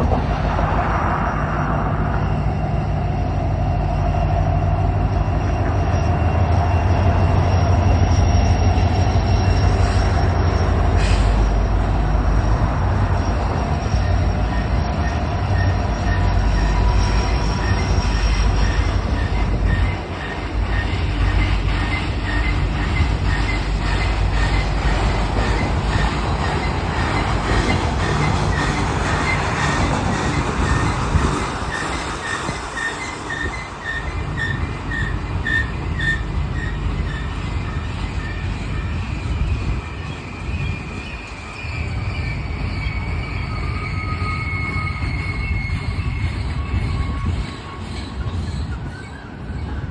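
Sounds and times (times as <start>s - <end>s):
wheels squealing: 1.2s - 49.9s.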